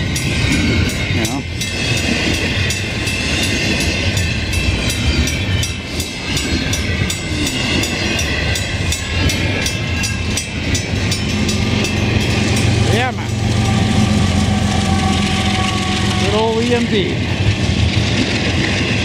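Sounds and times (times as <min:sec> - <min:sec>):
diesel locomotive hum: 0:00.0 - 0:19.0
freight train rumble: 0:00.0 - 0:19.0.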